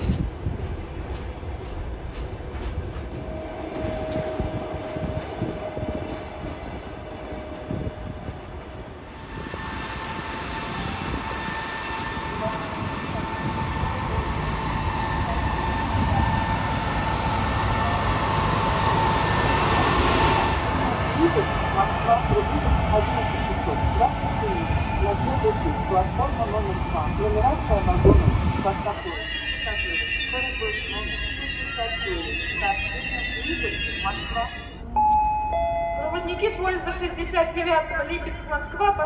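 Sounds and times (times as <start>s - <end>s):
train coaches rumbling: 0.0s - 35.1s
electric locomotive whine: 0.0s - 36.6s.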